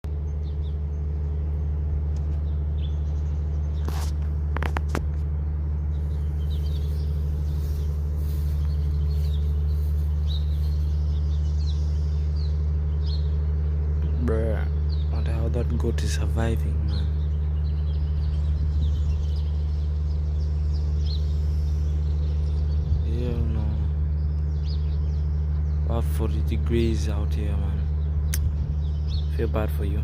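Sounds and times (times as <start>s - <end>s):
low motor drone: 0.0s - 30.0s
small birds chirping: 0.1s - 30.0s.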